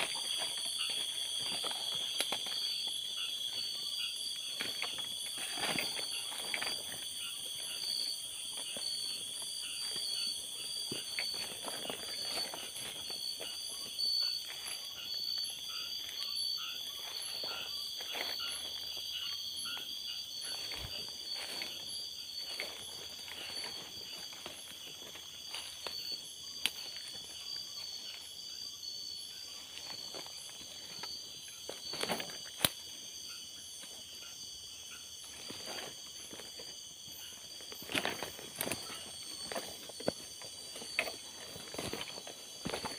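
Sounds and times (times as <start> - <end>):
footsteps through undergrowth: 0.0 - 33.0, 35.2 - 42.9
insects trilling: 0.0 - 42.9.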